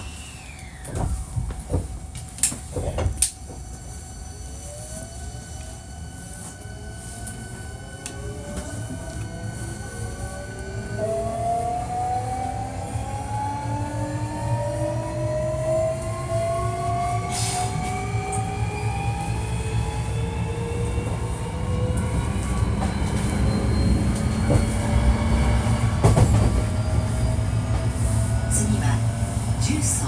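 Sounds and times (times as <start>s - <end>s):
electric train motor whine: 0.0s - 30.0s
wheels rumbling on rail: 0.0s - 30.0s.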